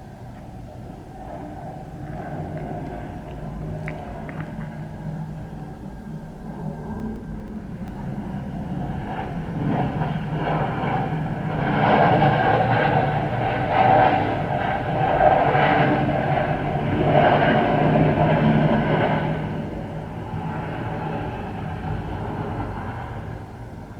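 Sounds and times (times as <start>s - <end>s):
jet airliner passing: 0.0s - 23.9s.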